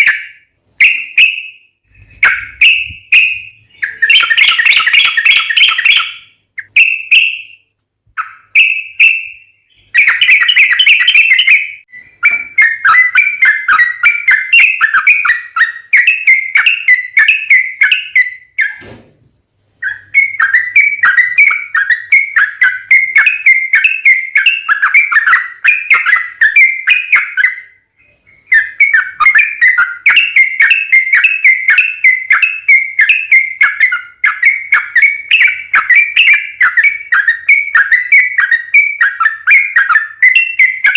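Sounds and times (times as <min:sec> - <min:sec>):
bulbul chattering song: 0:00.0 - 0:18.9, 0:19.7 - 0:40.9.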